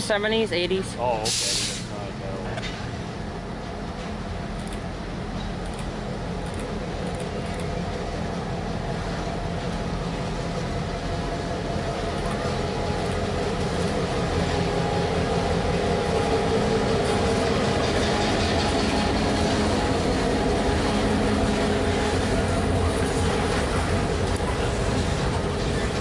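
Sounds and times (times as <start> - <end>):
diesel locomotive engine drone: 0.0 - 26.0
rolling rumble of railcars: 0.0 - 26.0.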